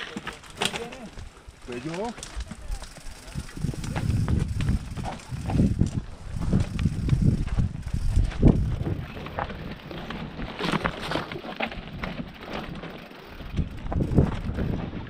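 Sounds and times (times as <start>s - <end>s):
bike rattling over bumps: 0.0s - 15.0s
tyres on loose ground: 0.0s - 15.0s
wind buffeting microphone: 1.0s - 11.1s, 11.7s - 15.0s.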